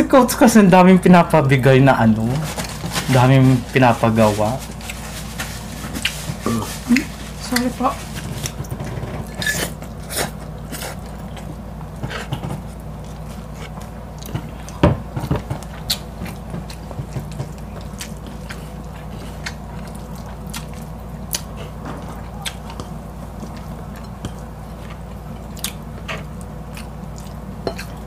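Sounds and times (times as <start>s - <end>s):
people chewing and biting: 4.6s - 28.0s.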